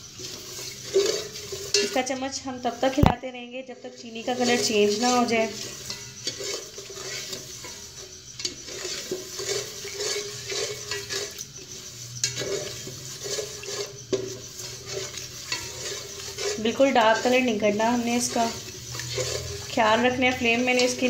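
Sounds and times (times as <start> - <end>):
spoon scraping a metal pot: 0.0 - 3.0, 3.8 - 21.0.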